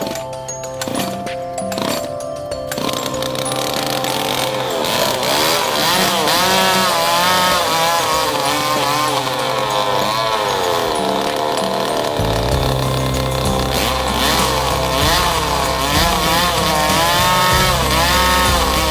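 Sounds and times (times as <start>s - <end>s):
small engine revving: 0.8s - 18.9s.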